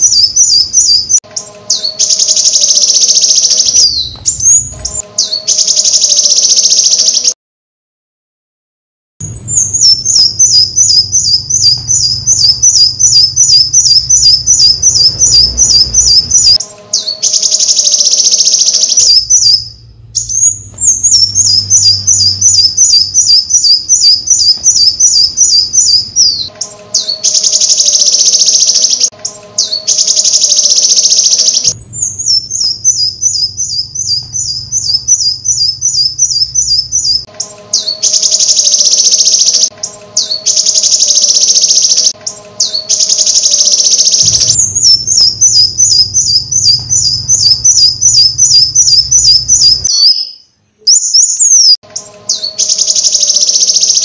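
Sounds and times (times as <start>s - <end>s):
bird song with chirps and trills: 0.0s - 7.4s, 9.2s - 54.0s.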